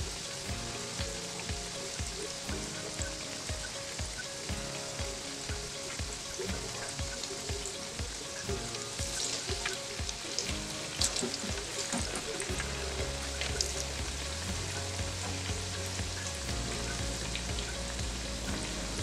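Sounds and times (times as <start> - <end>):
soft music beat: 0.0 - 19.0.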